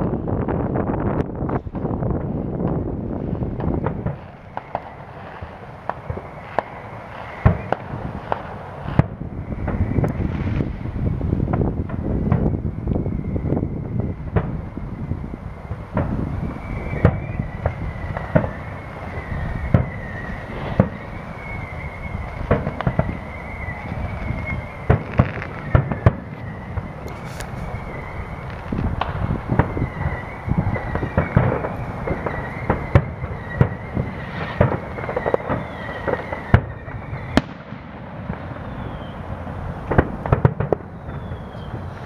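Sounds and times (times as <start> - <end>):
distant fireworks bangs and crackles: 0.0 - 42.0.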